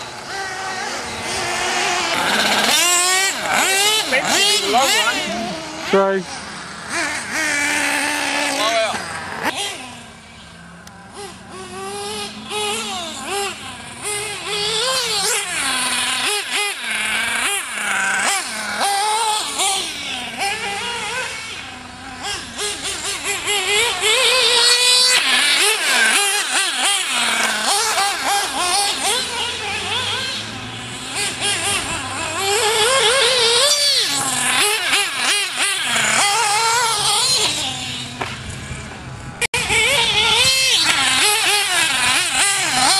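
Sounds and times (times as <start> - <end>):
nitro engine revving: 0.0 - 42.9.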